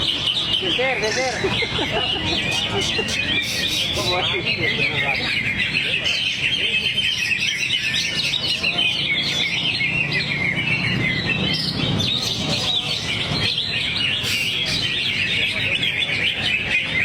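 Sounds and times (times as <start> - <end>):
bird singing chirps and trills: 0.0 - 17.0.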